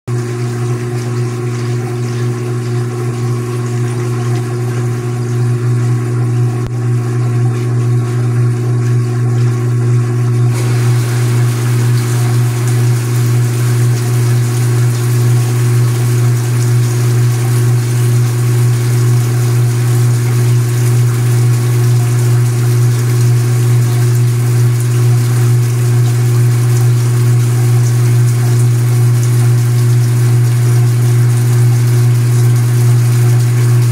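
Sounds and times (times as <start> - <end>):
washing machine motor hum: 0.1 - 33.9
water spraying into tub: 0.1 - 33.9.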